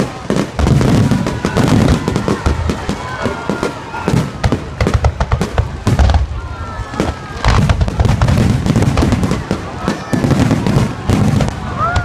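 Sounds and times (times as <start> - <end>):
firework shells booming: 0.0 - 12.0
fireworks crackling: 0.0 - 12.0.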